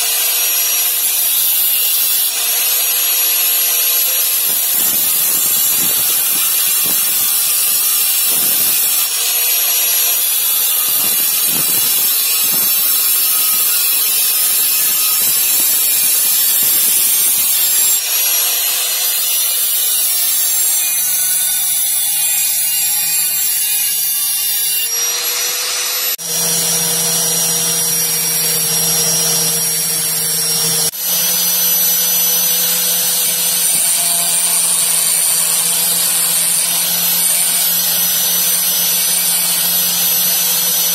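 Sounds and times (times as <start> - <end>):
angle grinder grinding steel: 0.0 - 40.9.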